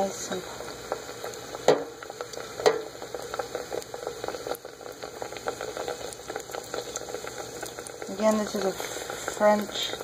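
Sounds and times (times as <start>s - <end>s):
oil sizzling and bubbling: 0.0s - 10.0s.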